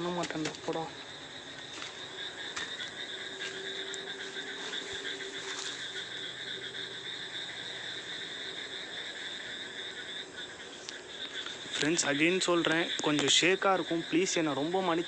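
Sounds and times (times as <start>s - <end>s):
crickets trilling: 0.0s - 15.0s
frogs buzzing: 0.0s - 15.0s.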